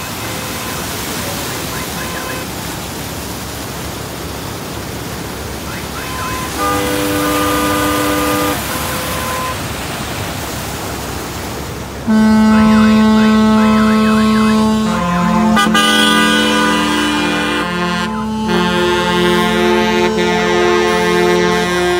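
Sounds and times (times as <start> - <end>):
rushing stream water: 0.0 - 21.9.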